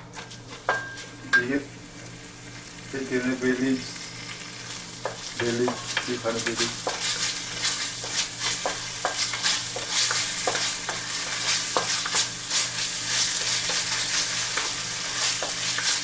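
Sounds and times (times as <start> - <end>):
food sizzling in a pan: 0.2 - 16.0.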